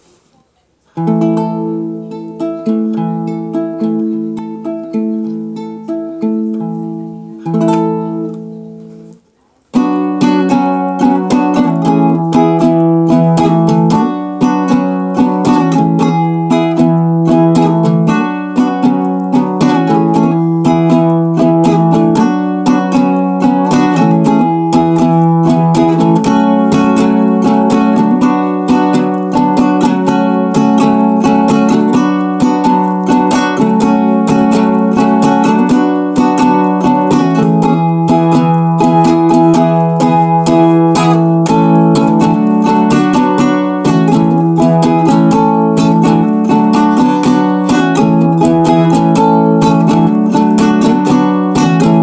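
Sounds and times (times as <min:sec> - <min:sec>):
ukulele strumming: 0:00.0 - 0:52.0.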